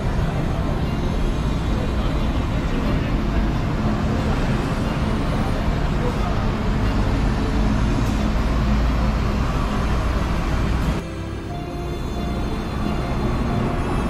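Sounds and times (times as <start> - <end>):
traffic rumble and hiss: 0.0 - 14.0.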